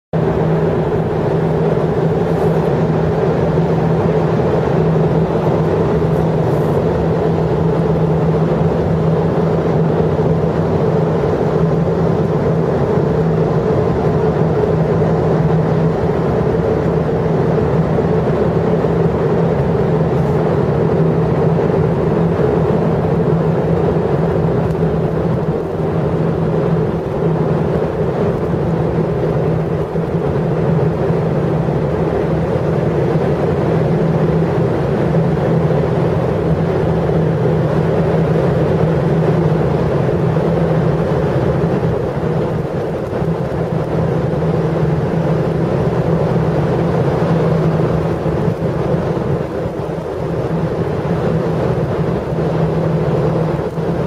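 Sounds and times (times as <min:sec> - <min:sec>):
loud mechanical drone: 0:00.2 - 0:54.0.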